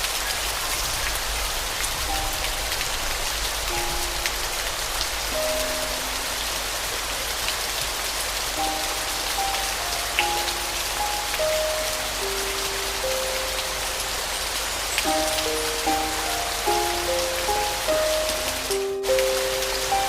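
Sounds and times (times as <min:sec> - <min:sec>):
steady rain: 0:00.0 - 0:20.0
soft piano notes: 0:01.9 - 0:20.0.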